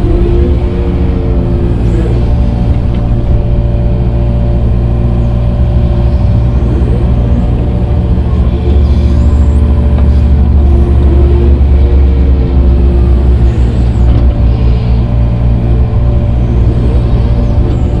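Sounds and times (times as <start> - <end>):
heavy equipment engine droning: 0.0 - 18.0
machine whines: 0.0 - 18.0.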